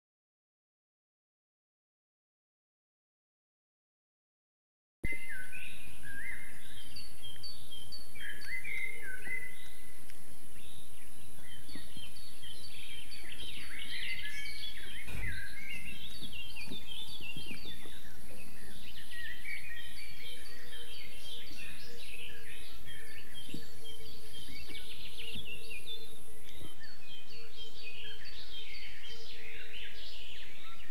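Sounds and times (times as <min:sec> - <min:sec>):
birds chirping and calling: 0:05.1 - 0:30.9.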